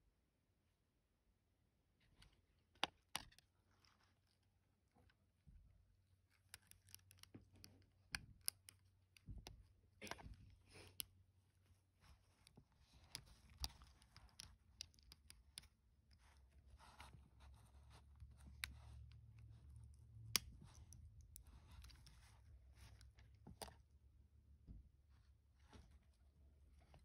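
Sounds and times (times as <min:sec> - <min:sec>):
small clicks and soft rustles: 0:02.0 - 0:27.0.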